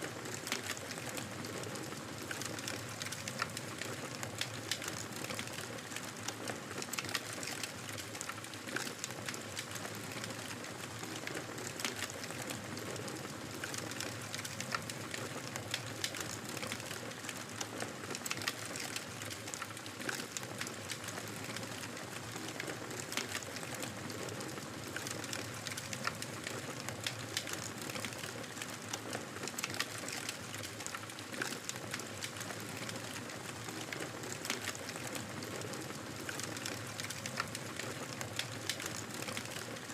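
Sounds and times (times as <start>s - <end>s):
fire popping and snapping: 0.2s - 39.8s.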